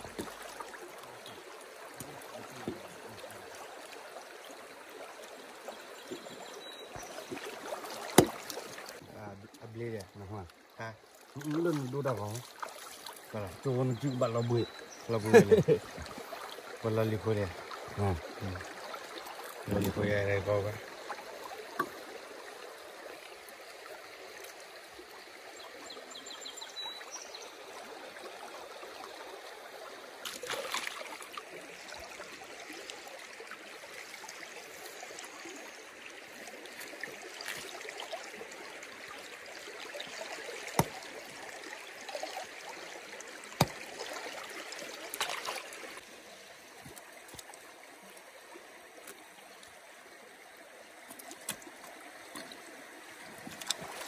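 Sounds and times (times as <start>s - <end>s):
flowing stream: 0.0s - 54.0s.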